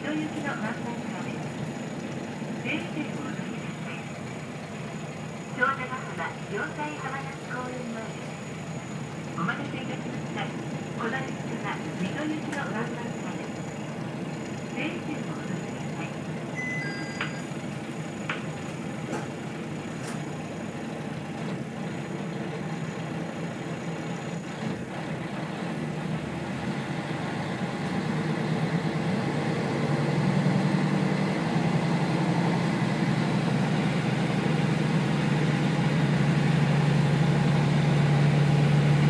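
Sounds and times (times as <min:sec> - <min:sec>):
diesel railcar engine: 0:00.0 - 0:39.0.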